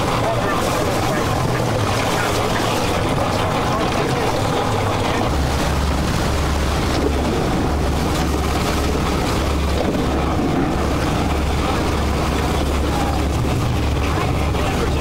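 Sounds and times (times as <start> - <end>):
boat engine humming: 0.0 - 15.0
rushing wind: 0.0 - 15.0
sea water splashing: 0.0 - 15.0.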